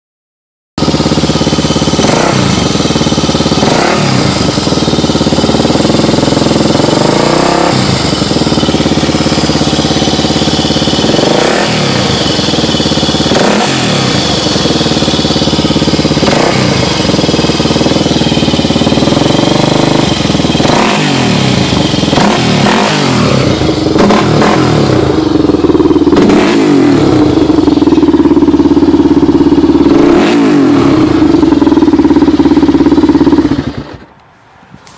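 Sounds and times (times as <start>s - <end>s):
motorcycle engine revving: 0.8s - 34.3s.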